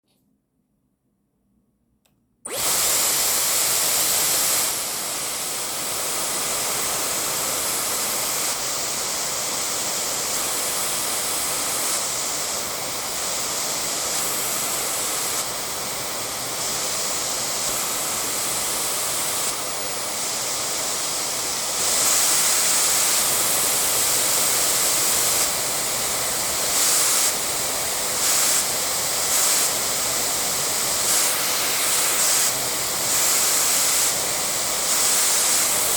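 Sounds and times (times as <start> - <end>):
hair dryer blowing air: 2.5 - 35.9.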